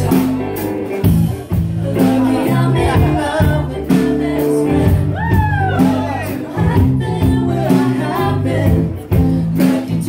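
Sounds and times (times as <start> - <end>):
electric bass: 0.0 - 10.0
person singing: 1.4 - 10.0.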